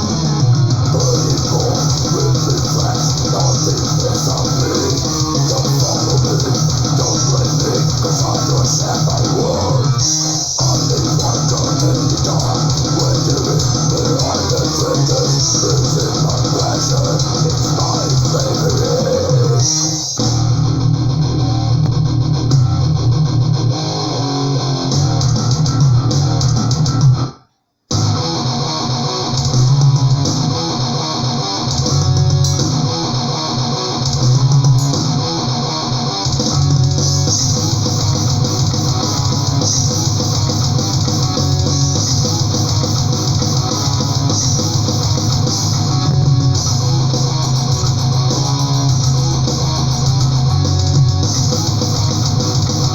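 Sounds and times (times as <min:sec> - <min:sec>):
metal music with electric guitar: 0:00.0 - 0:52.9.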